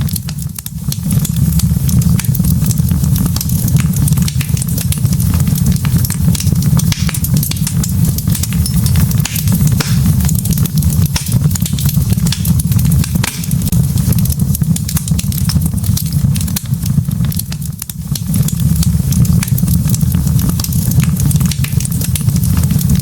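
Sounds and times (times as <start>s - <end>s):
burning logs crackling: 0.0s - 23.0s
low rumble of flames: 0.0s - 23.0s.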